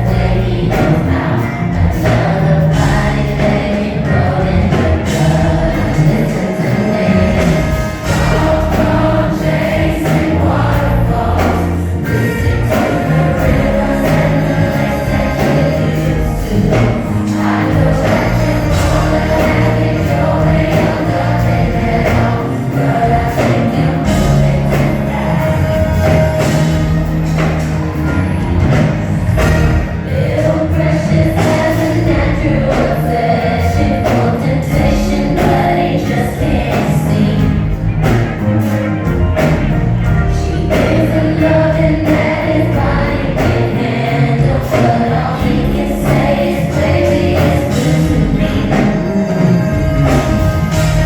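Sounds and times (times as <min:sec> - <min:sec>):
women singing: 0:00.0 - 0:28.8, 0:29.4 - 0:38.2, 0:40.3 - 0:51.0
band with bass and drums: 0:00.0 - 0:51.0.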